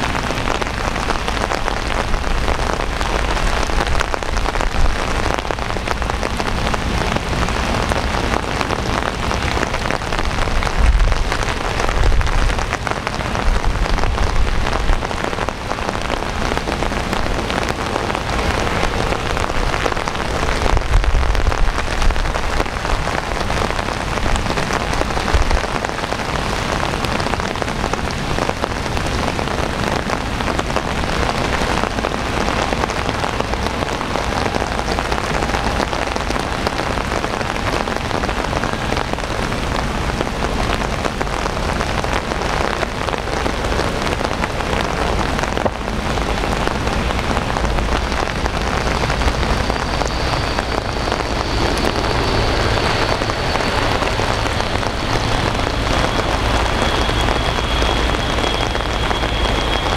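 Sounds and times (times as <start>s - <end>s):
deep low rumble: 0.0s - 59.9s
heavy rain on hard surfaces: 0.0s - 59.9s.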